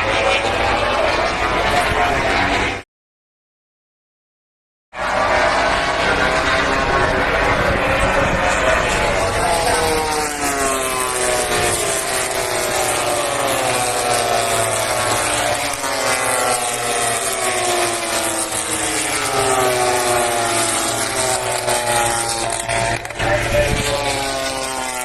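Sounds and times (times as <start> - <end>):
race motorcycles passing: 5.0 - 25.0.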